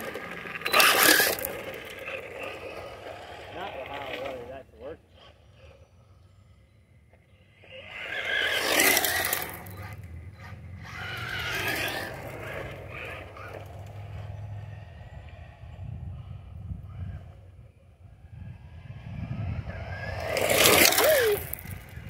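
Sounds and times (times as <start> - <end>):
remote-control car speeding past: 0.0 - 22.0.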